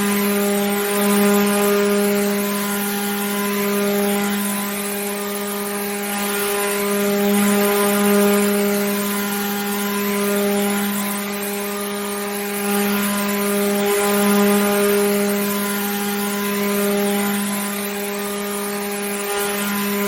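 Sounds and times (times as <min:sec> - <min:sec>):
electric water pump running: 0:00.0 - 0:20.0.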